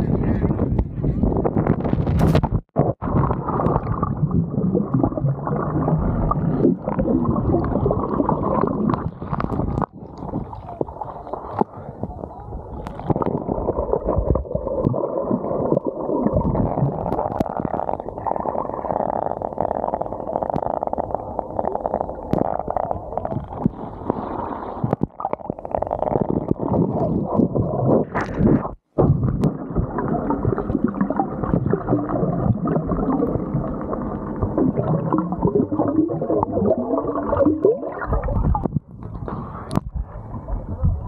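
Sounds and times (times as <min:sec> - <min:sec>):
underwater gurgling and rumbling: 0:00.0 - 0:41.0.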